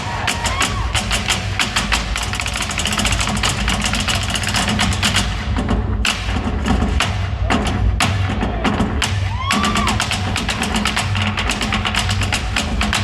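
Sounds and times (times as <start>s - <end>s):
fast live drumming: 0.0s - 13.0s
music: 0.0s - 13.0s.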